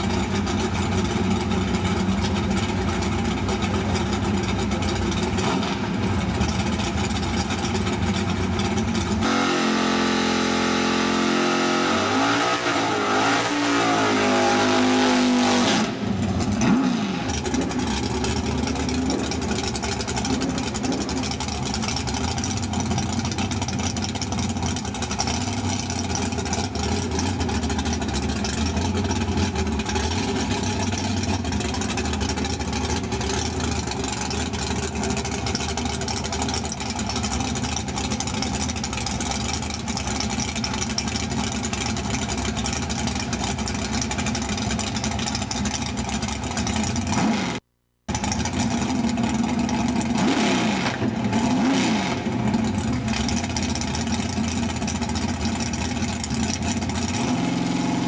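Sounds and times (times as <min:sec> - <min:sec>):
race car engine idling and revving: 0:00.0 - 0:58.0.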